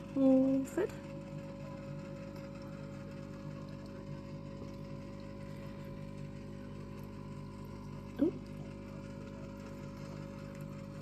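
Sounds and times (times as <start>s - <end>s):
aquarium pump humming: 0.0s - 11.0s.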